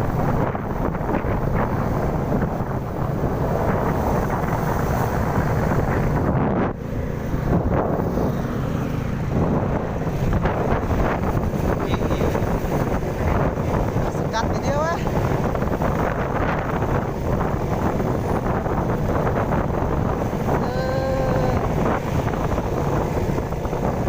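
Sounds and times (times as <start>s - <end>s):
road traffic: 0.0s - 24.0s
steady engine hum: 0.0s - 24.0s
wind buffeting microphone: 0.0s - 24.0s.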